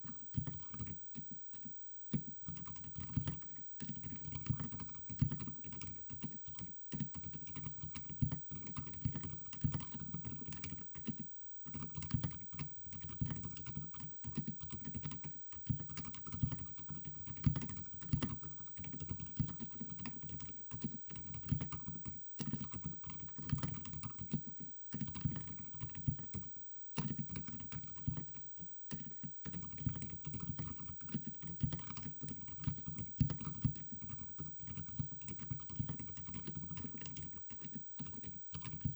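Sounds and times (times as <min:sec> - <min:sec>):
typing on mechanical keyboard: 0:02.5 - 0:38.9.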